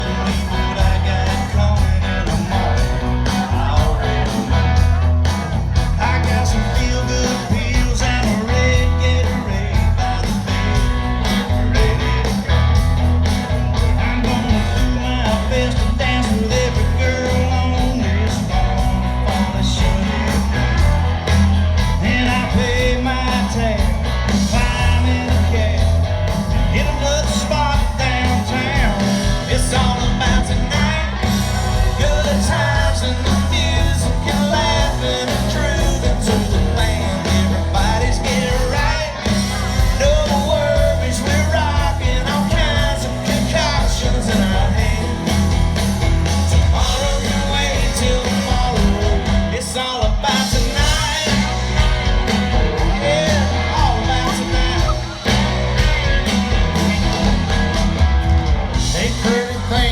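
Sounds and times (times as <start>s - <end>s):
lead singer: 0.0s - 59.9s
live country-rock band playing: 0.0s - 59.9s.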